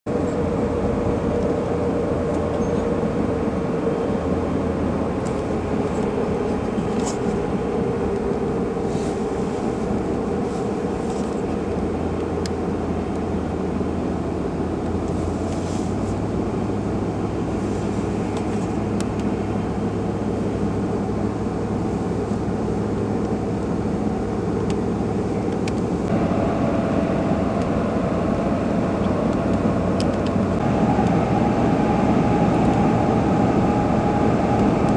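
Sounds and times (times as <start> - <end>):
vehicle engine and road noise: 0.0 - 34.9
steady droning tone: 0.1 - 34.9.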